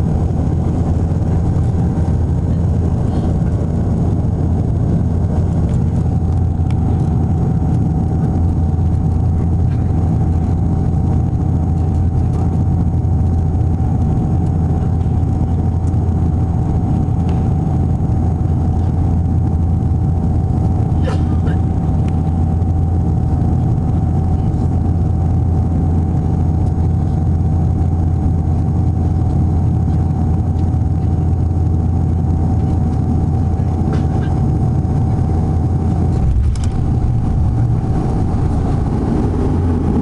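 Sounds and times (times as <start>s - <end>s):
aircraft engine and propeller hum: 0.0s - 40.0s.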